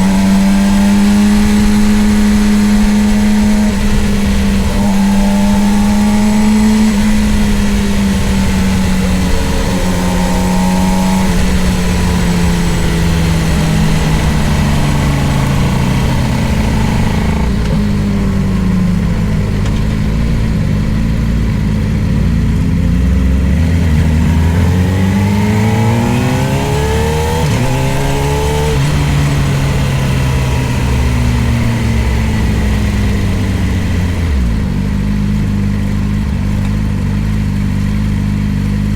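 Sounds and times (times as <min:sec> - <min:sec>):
motorcycle engine at racing speed: 0:00.0 - 0:38.9.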